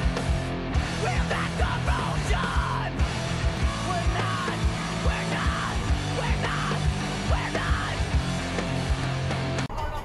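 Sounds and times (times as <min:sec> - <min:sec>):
music with fast drumbeat: 0:00.0 - 0:09.7.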